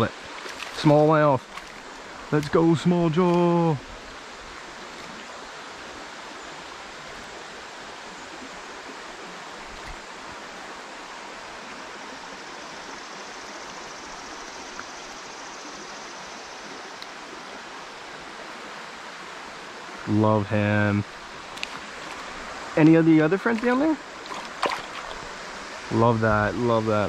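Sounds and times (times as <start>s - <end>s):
creek water running over rocks: 0.0s - 27.0s.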